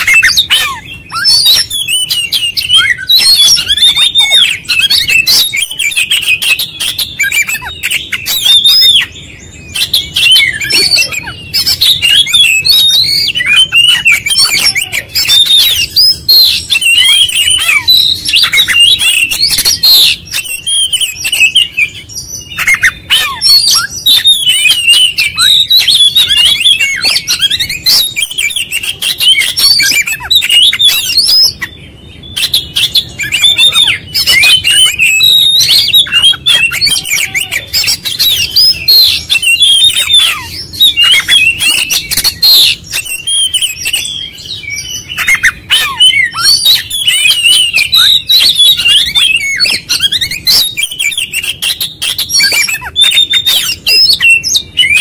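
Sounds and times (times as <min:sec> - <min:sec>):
magpie-robin singing: 0:00.0 - 0:55.0.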